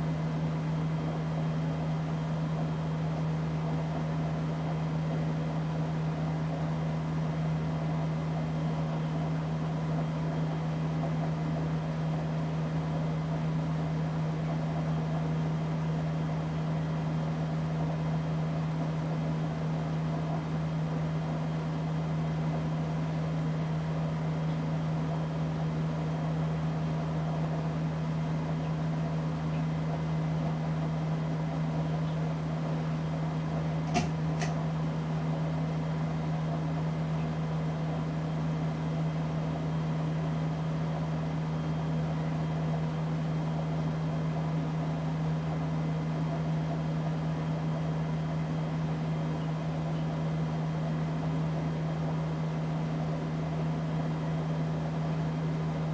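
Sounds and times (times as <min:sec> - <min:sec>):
ceiling fan motor humming: 0:00.0 - 0:55.9.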